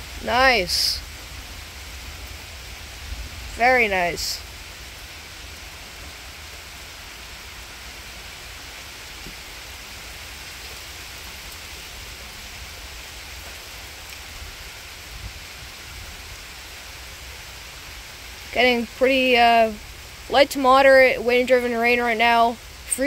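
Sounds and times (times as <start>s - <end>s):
wind-driven rain hiss: 0.0s - 23.0s.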